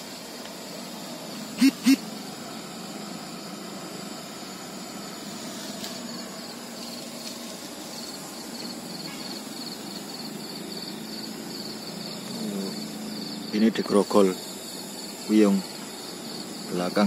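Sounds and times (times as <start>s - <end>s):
insects chirping: 0.0s - 17.0s
steady background hiss: 0.0s - 17.0s.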